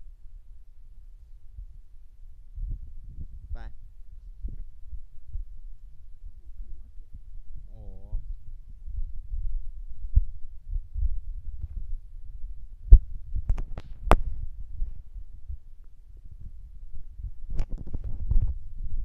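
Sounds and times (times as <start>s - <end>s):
microphone jostling thumps: 2.5s - 19.0s.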